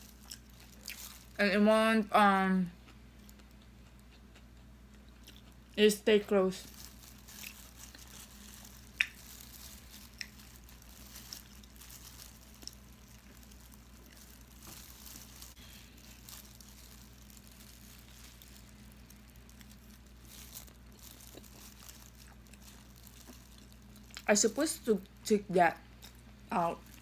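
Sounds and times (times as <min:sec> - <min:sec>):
person chewing: 0:00.0 - 0:01.4, 0:02.8 - 0:05.8, 0:06.6 - 0:24.3, 0:26.0 - 0:27.0.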